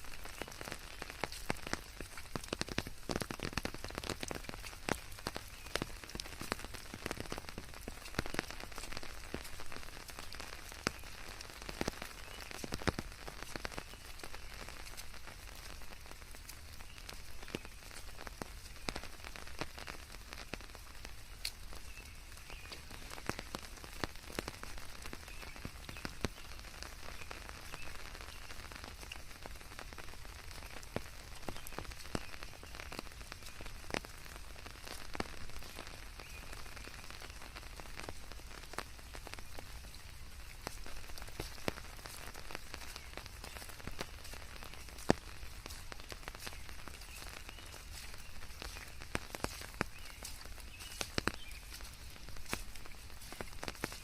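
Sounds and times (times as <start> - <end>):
rain hiss: 0.0 - 54.0
raindrops pattering on surfaces: 0.0 - 54.0.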